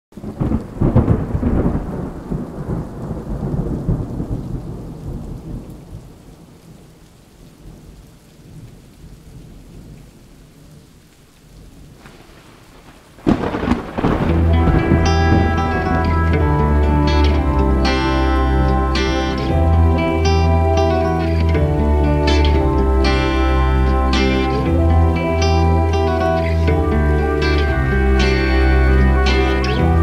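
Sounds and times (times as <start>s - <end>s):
thunder rumbling: 0.2s - 6.7s, 11.6s - 30.0s
rain hiss: 0.2s - 30.0s.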